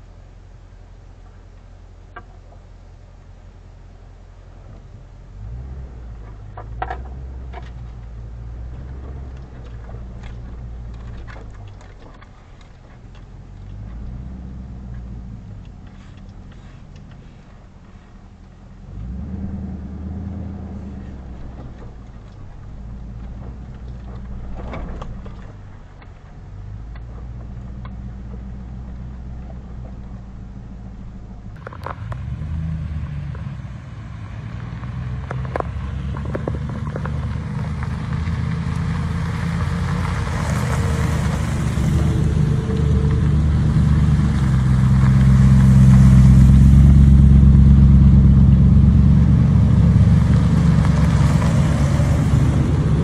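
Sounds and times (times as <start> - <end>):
off-road vehicle engine rumble: 0.0 - 53.0.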